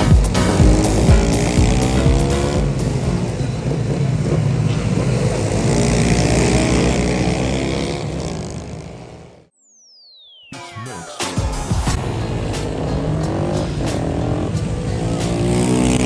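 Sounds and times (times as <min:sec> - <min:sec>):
pit bike engine revving: 0:00.0 - 0:09.5, 0:12.2 - 0:16.0.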